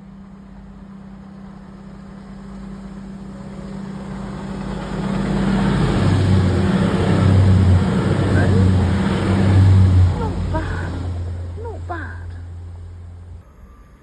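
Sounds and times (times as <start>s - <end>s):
deeper train tone: 0.0s - 14.0s
train humming: 0.0s - 14.0s.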